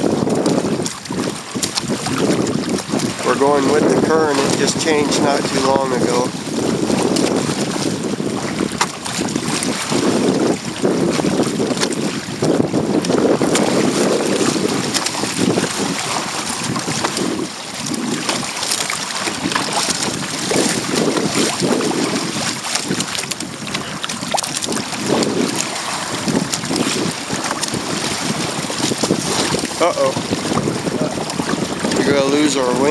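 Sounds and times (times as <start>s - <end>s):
water splashing against hull: 0.0s - 32.9s
wind buffeting microphone: 0.0s - 32.9s.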